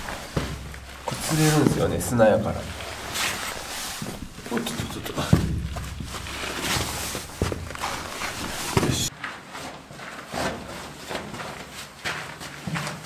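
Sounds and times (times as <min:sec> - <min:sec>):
footsteps on sandy rock floor: 0:00.0 - 0:13.0.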